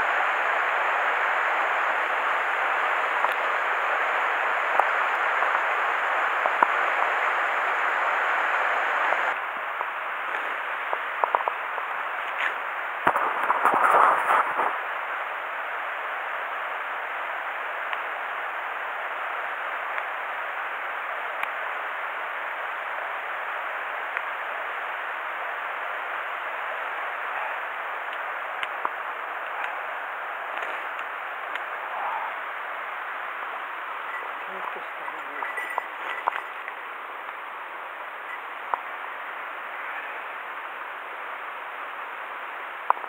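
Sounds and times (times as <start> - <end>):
rustle: 0.0 - 16.5, 19.0 - 43.0.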